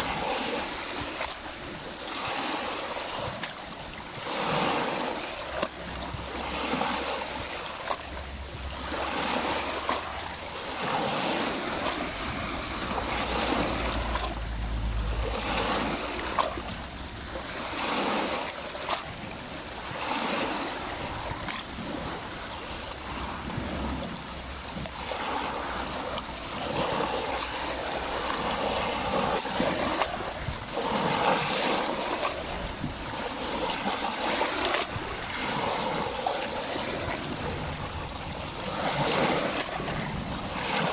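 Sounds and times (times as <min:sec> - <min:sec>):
waves lapping against shore: 0:00.0 - 0:40.9.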